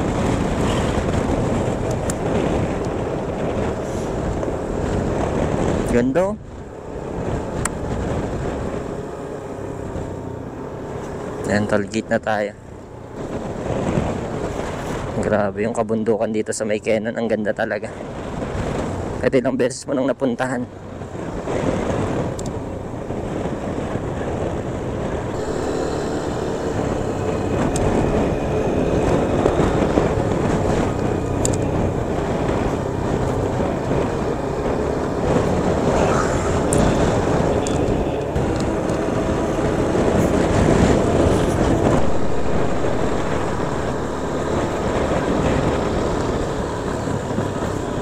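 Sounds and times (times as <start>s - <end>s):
motorcycle engine running: 0.0s - 15.4s, 20.8s - 48.0s
wind buffeting microphone: 0.0s - 19.4s, 20.6s - 48.0s.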